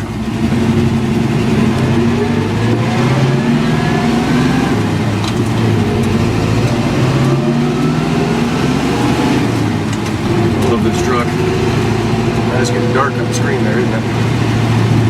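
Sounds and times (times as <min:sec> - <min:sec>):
rising whine: 0:00.0 - 0:15.0
truck engine accelerating: 0:00.0 - 0:15.0.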